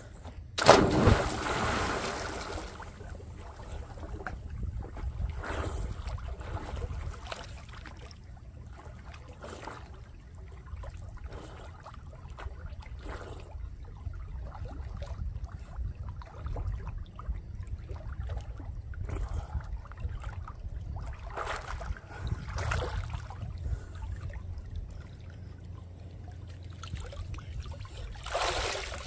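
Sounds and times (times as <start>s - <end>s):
water splashing from swimming: 0.6s - 29.0s.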